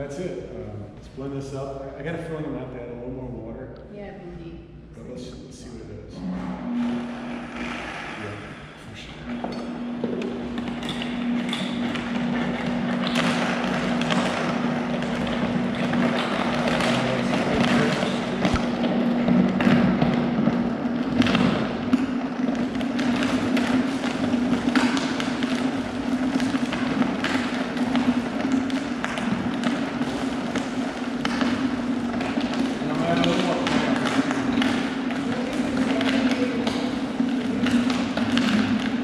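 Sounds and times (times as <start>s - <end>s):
blender motor humming: 6.2s - 39.0s.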